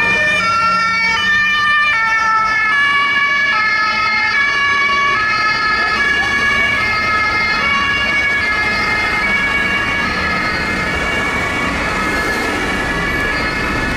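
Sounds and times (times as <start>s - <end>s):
traffic rumble: 0.0s - 13.9s
two-tone emergency sirens: 0.0s - 13.9s.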